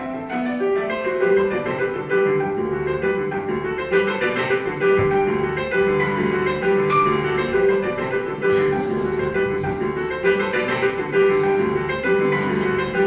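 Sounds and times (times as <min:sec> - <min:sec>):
piano notes over loudspeakers: 0:00.0 - 0:13.0.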